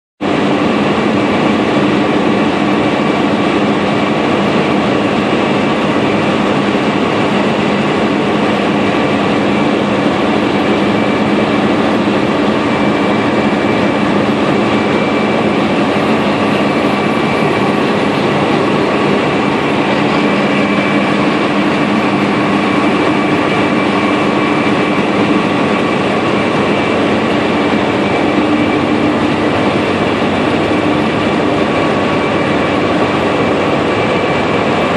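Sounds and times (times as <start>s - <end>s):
drilling rig machinery running: 0.2s - 34.9s.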